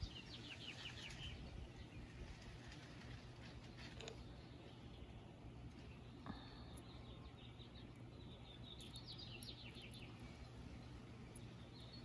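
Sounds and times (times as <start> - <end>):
faint bird chirping: 0.0 - 12.0
low steady hum: 0.0 - 12.0.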